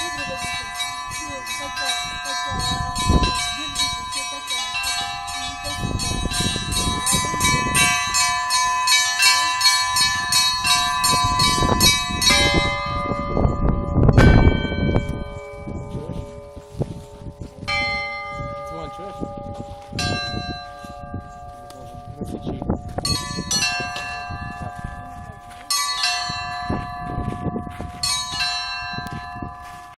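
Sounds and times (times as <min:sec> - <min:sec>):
ringing hum of large bells: 0:00.0 - 0:30.0
small high bells pealing: 0:00.0 - 0:30.0.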